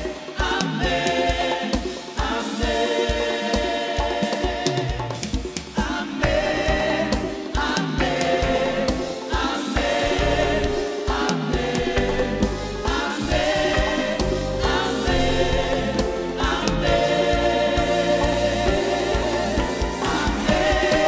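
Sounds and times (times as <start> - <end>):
gospel choir singing: 0.0 - 21.0
instrumental accompaniment with bass: 0.0 - 21.0.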